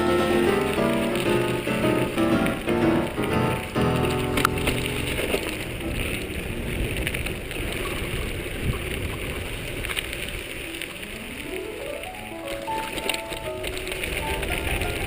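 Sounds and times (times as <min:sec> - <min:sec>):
bike tyres rolling on trail: 0:00.0 - 0:15.0.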